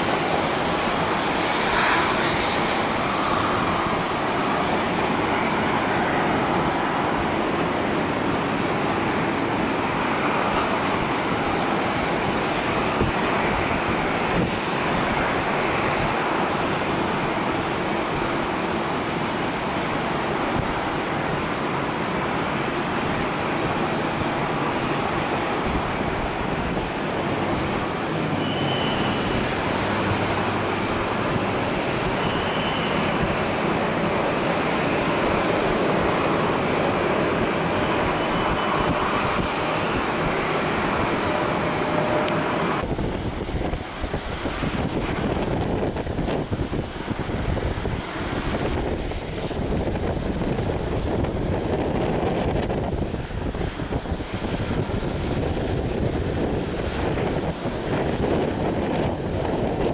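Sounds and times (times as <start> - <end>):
jet engines taxiing: 0.0 - 59.9.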